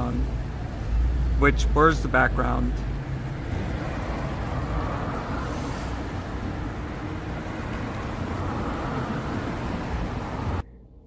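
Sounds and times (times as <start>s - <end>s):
cars passing on road: 0.0s - 10.6s.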